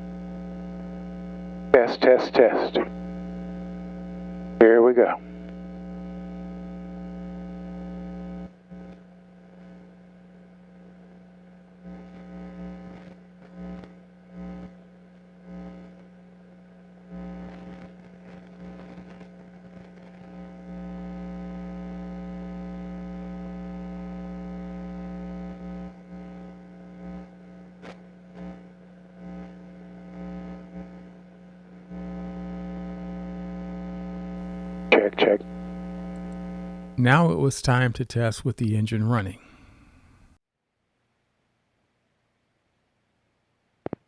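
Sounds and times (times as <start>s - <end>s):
electrical hum: 0.0s - 40.4s.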